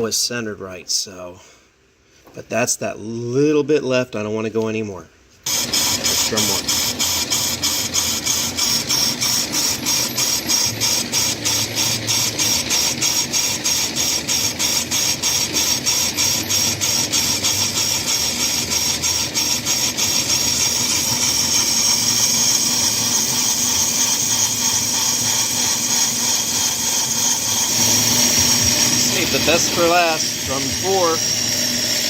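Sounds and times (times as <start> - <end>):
lathe cutting metal: 5.5 - 32.0.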